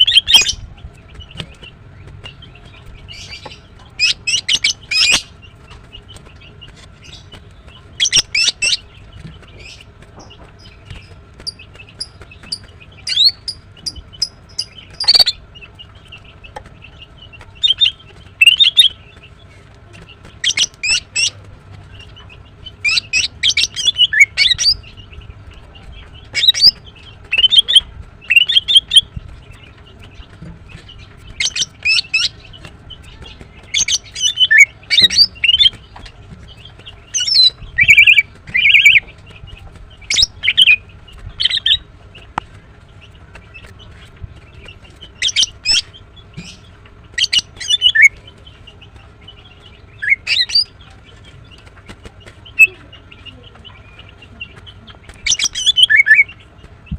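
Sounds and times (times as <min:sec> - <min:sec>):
bird high chirps: 0:00.0 - 0:56.9.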